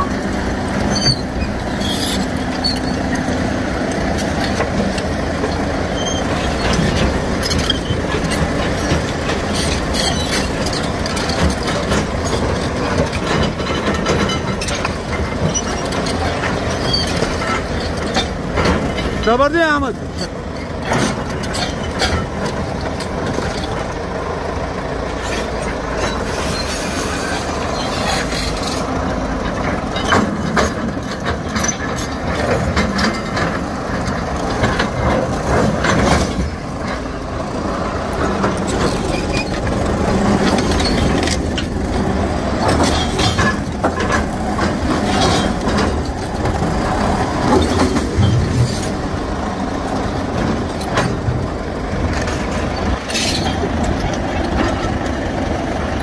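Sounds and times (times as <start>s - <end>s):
diesel engine under load: 0.0s - 56.0s
steel tracks clattering: 0.0s - 56.0s.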